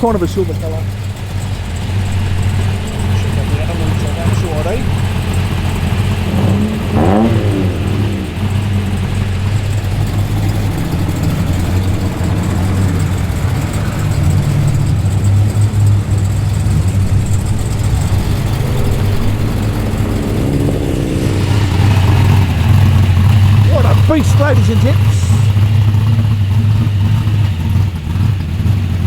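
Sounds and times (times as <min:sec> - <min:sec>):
car engine rumbling at low revs: 0:00.0 - 0:29.0.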